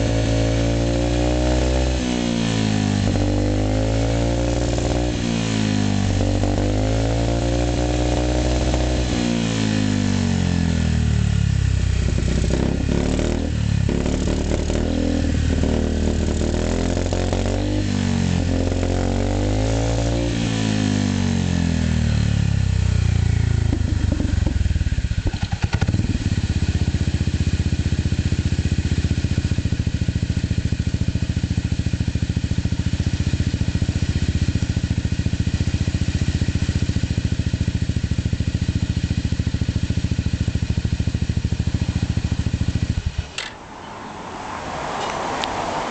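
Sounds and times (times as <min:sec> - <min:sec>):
scooter engine revving and idling: 0:00.0 - 0:43.6.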